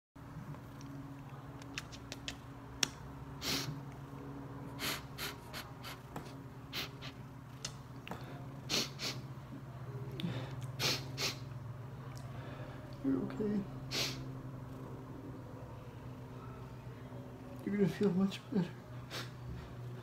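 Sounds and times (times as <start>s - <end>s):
steady low hum: 0.2s - 20.0s.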